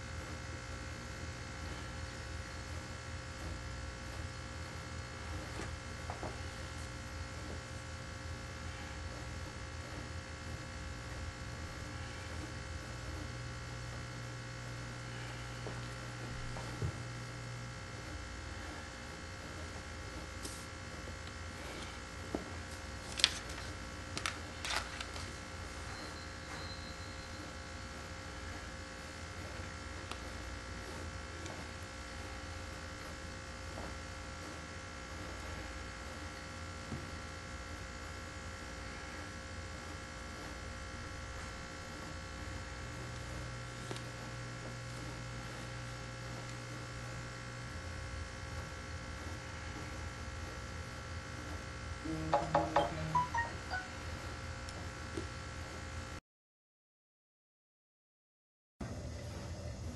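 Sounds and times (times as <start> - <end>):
electrical hum: 0.0 - 56.2.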